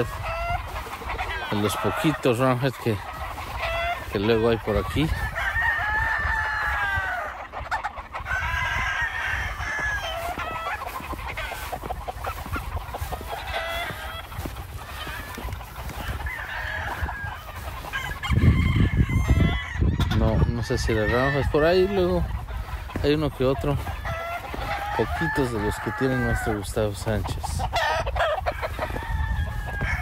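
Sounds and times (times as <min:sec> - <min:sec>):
roosters crowing: 0:00.0 - 0:30.0.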